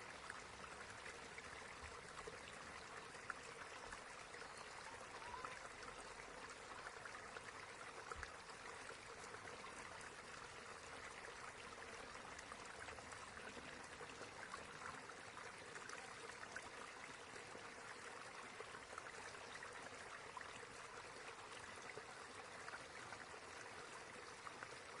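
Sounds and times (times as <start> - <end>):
small stream babbling: 0.0 - 25.0.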